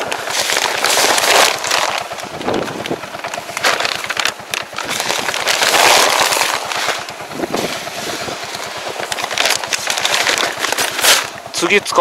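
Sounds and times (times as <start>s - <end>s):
plastic sacks crinkling: 0.0s - 11.7s.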